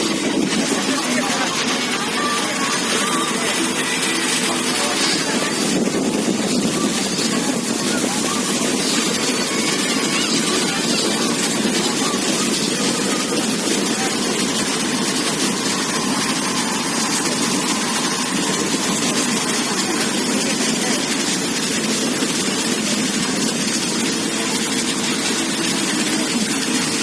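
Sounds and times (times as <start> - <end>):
boat engine running: 0.0 - 27.0
water and wind noise: 0.0 - 27.0.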